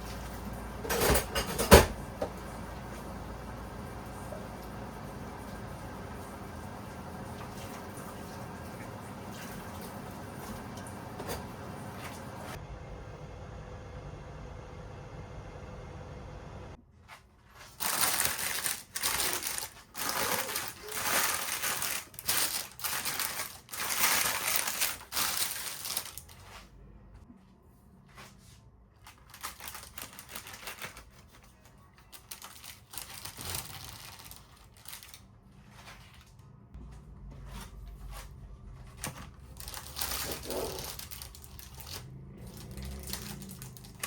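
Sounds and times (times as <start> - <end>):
rustling and crinkling handling noise: 0.0 - 12.6, 16.8 - 44.0.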